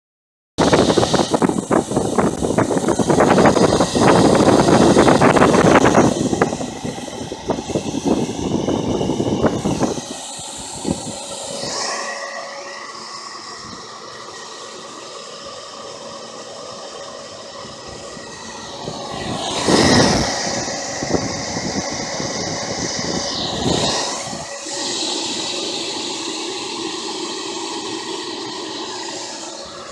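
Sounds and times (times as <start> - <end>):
blower fan whirring: 0.6 - 29.9.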